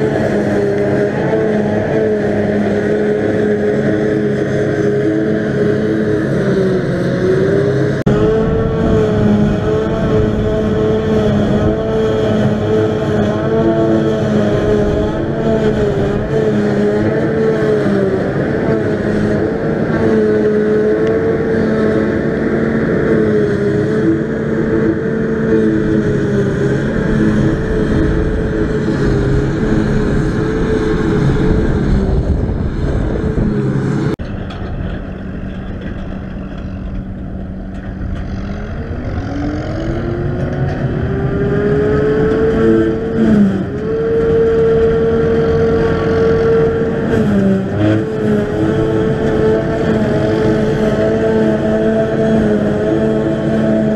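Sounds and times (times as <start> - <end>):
forage harvester engine humming: 0.0 - 53.9.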